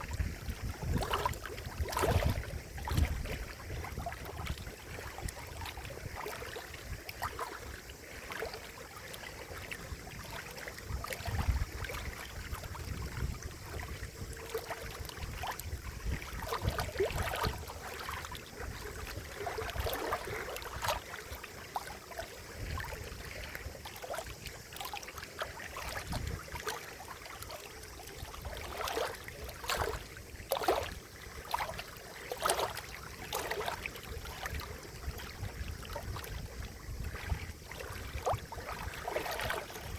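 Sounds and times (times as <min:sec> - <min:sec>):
water gurgling and splashing: 0:00.0 - 0:39.9
small water plops: 0:00.9 - 0:39.9.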